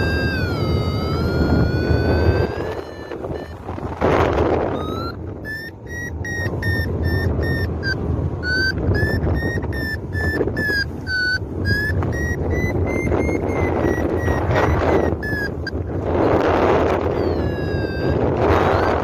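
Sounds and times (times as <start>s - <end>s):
variometer beeping: 0.0s - 19.0s
wind rushing over microphone: 0.0s - 19.0s.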